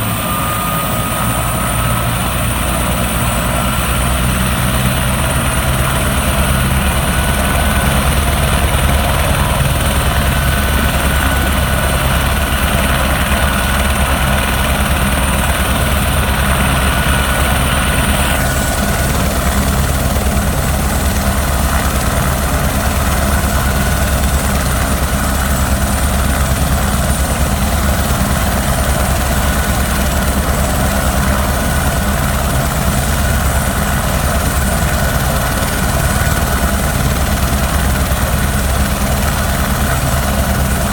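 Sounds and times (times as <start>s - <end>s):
helicopter rotor and turbine: 0.0s - 40.9s.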